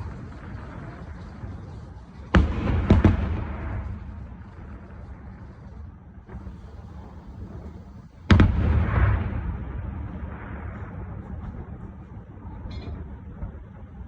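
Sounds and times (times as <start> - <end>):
fireworks bangs with rumbling echo: 0.0 - 14.0.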